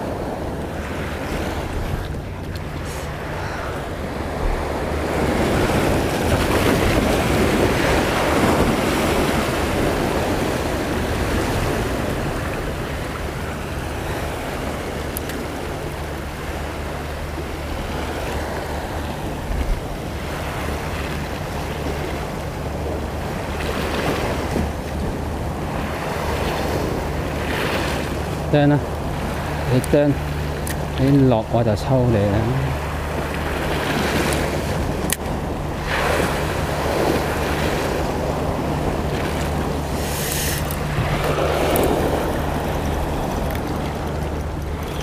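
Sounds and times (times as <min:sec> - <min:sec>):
sea waves washing against rocks: 0:00.0 - 0:45.0
wind buffeting microphone: 0:00.0 - 0:45.0.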